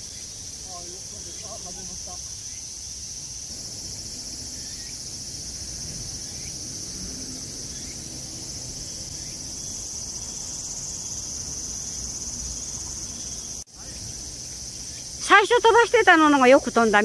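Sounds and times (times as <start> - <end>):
insects singing: 0.0 - 17.0.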